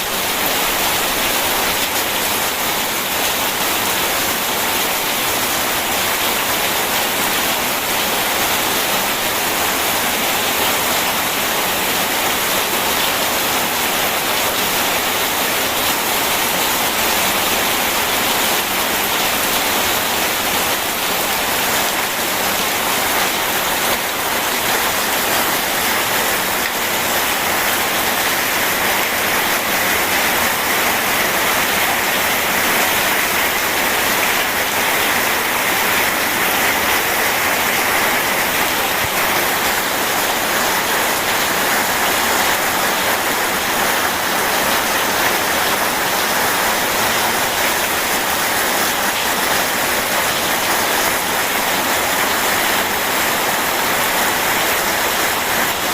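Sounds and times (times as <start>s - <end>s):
rushing river: 0.0s - 55.9s
steady rain: 0.0s - 55.9s.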